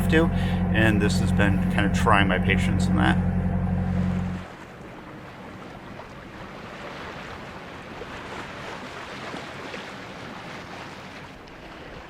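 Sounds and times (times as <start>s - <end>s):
water splashing along hull: 0.0s - 12.0s.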